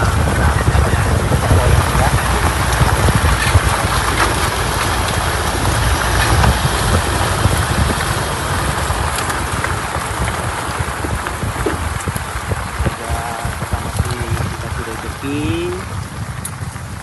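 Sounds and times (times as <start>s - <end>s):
tyre and road noise: 0.0s - 17.0s
wind buffeting microphone: 0.0s - 17.0s.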